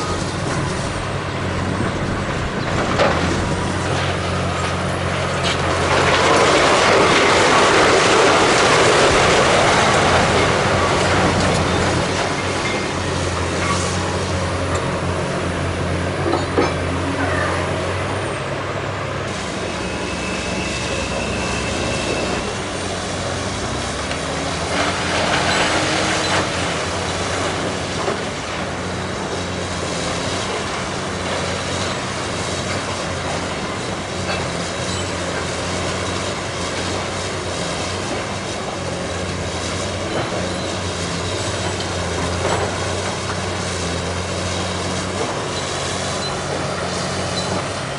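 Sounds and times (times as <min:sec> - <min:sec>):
diesel machinery droning: 0:00.0 - 0:47.9.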